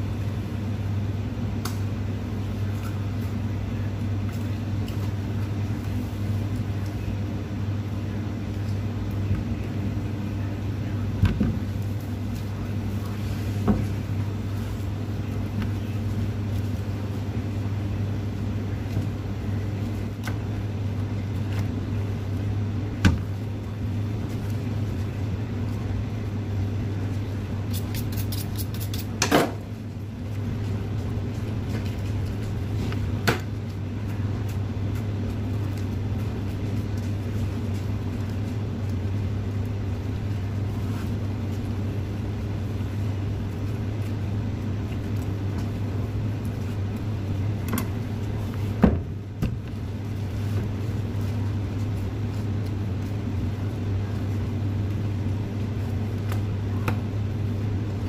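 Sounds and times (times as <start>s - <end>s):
refrigeration hum: 0.0s - 58.0s.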